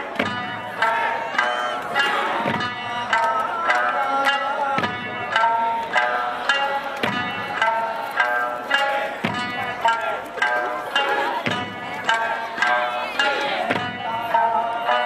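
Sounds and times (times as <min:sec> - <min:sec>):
plucked string folk music over loudspeakers: 0:00.0 - 0:15.0.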